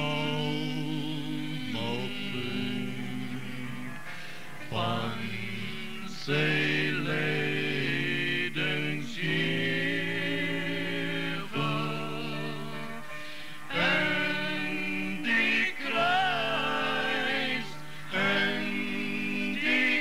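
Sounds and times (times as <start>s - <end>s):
group singing a slow hymn: 0.0s - 20.0s.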